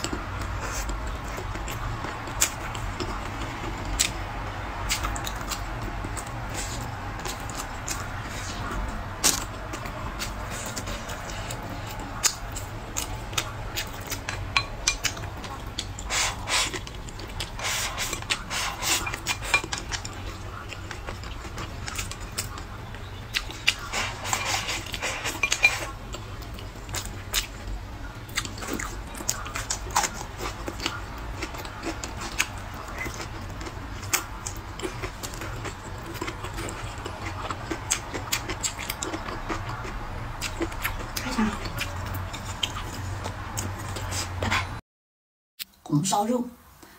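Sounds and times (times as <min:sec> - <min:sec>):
chewing: 0:00.0 - 0:44.8.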